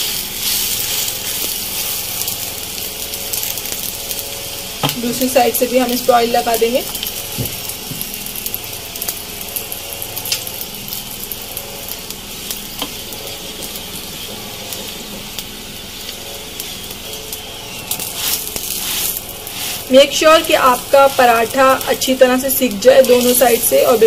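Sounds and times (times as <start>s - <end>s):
oil sizzling under frying bread: 0.0s - 24.0s
sharp crackle: 0.0s - 24.0s.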